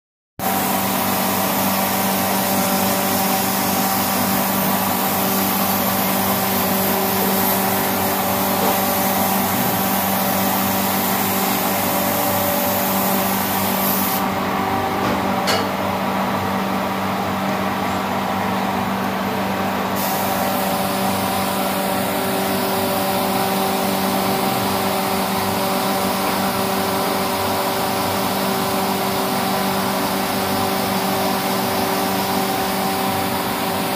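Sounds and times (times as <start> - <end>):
spray gun hissing: 0.4 - 14.3, 20.0 - 33.9.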